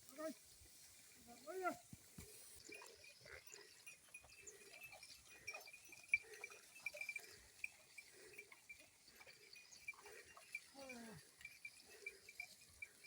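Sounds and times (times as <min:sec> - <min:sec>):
small clicks and clinks: 0:01.9 - 0:13.0.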